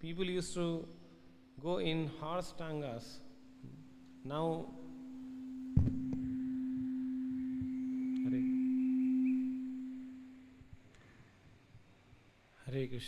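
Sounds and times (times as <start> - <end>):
low pure tone: 0.1 - 11.4.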